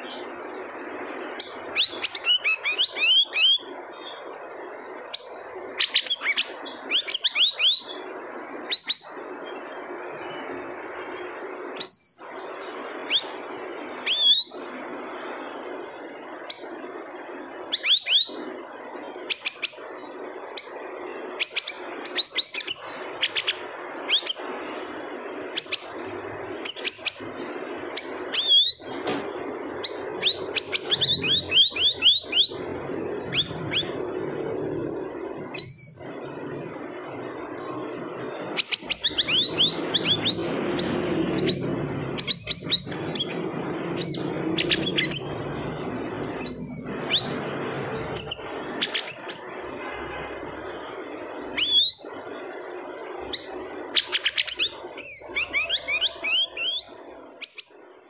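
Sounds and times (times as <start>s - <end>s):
bird chirping: 0.0s - 57.9s.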